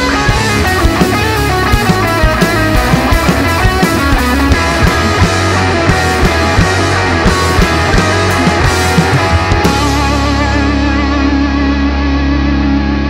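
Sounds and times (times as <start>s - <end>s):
drum beat: 0.0s - 11.0s
bass guitar: 0.0s - 13.0s
electric guitar: 0.0s - 13.0s.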